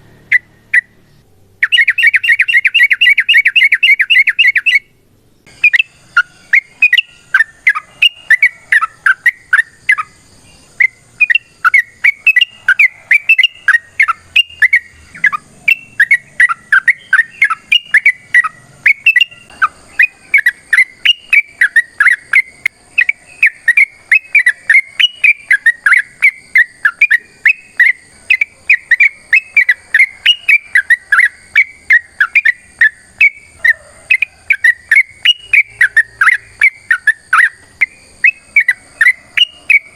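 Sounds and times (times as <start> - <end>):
bird singing chirping notes: 0.0 - 39.9.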